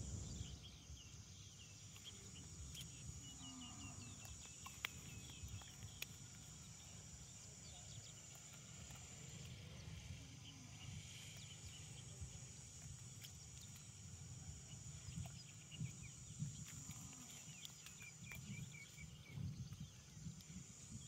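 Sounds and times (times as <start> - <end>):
birds chirping: 0.0 - 21.0
high insect drone: 0.0 - 21.0.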